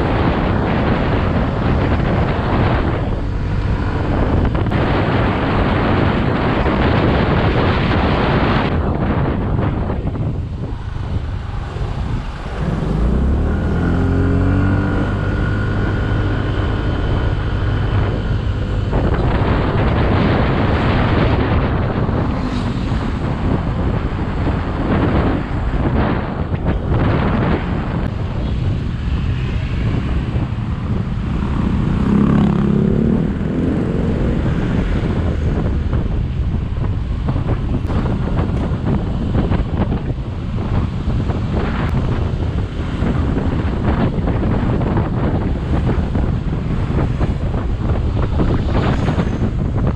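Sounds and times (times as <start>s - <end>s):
scooter engine humming: 0.0s - 6.6s, 9.0s - 49.9s
wind buffeting microphone: 0.0s - 49.9s.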